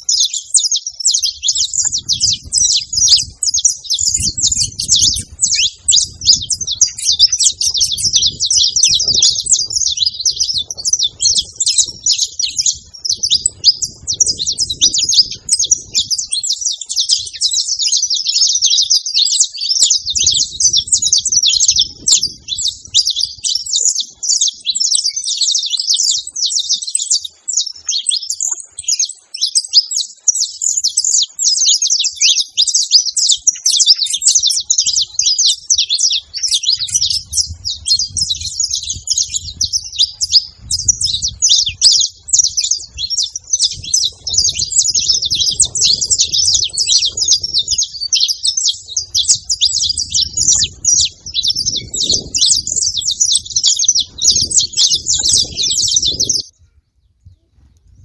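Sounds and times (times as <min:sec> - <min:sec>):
finches chirping and singing: 0:00.0 - 0:57.5.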